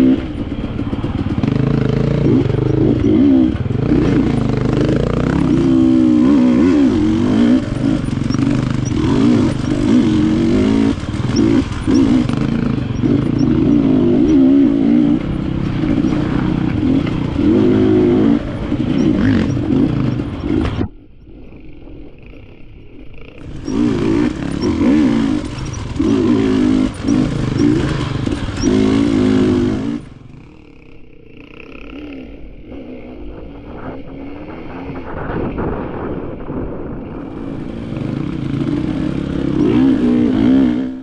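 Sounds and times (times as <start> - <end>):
dirt bike engine revving: 0.0 - 35.4, 37.1 - 41.0.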